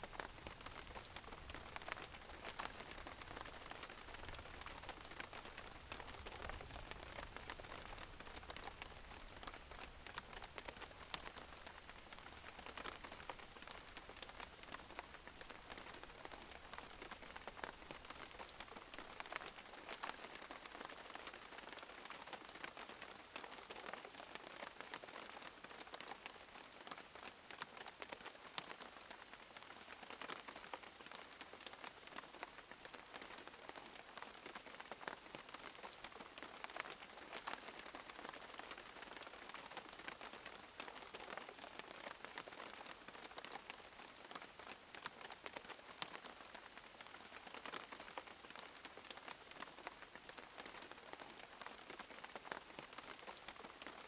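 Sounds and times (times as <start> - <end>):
rain patter on a surface: 0.0 - 54.0.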